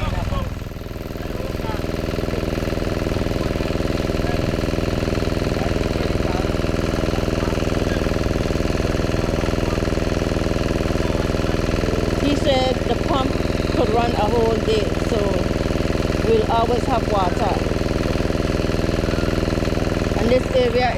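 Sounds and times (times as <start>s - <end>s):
generator engine running: 0.0s - 20.9s.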